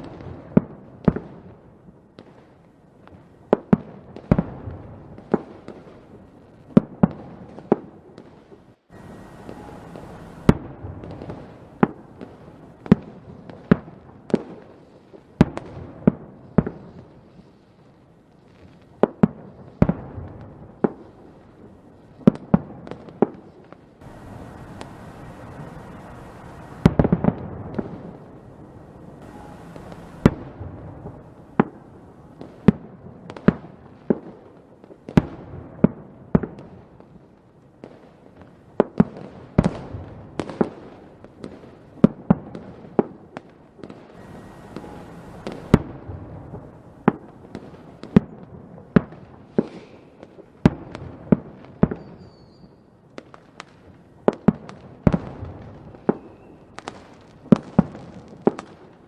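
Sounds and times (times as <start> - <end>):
fireworks crackling: 0.0 - 1.6, 2.2 - 37.2, 37.8 - 59.0
fireworks bangs: 2.2 - 17.6, 18.5 - 37.1, 38.8 - 59.0.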